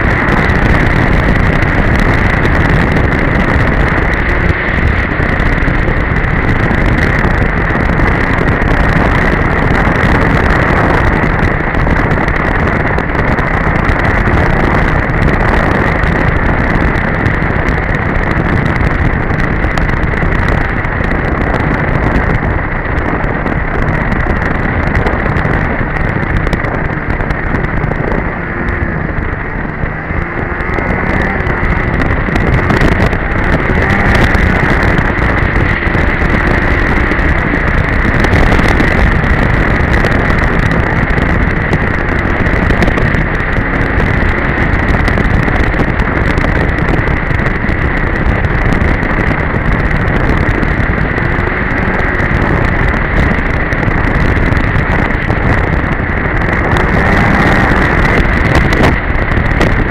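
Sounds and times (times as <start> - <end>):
snowmobile engine running: 0.0 - 59.9
wind noise on microphone: 0.0 - 59.9.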